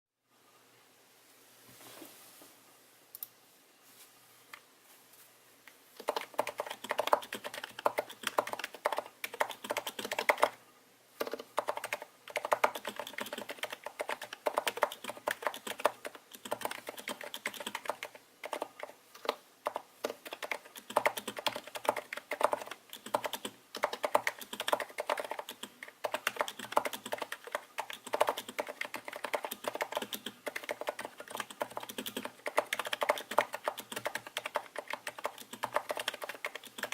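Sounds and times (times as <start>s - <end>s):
fast typing on a keyboard: 6.0s - 10.6s, 11.2s - 36.9s.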